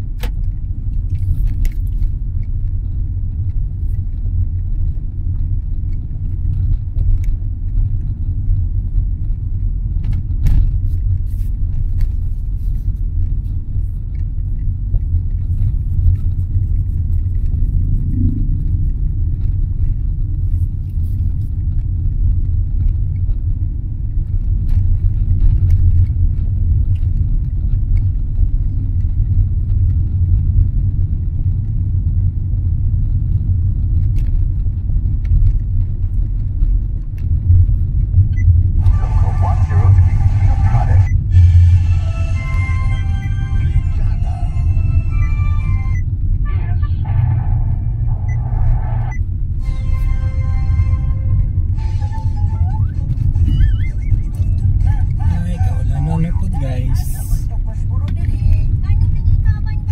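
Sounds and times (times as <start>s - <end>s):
car rumbling on the move: 0.0s - 59.9s.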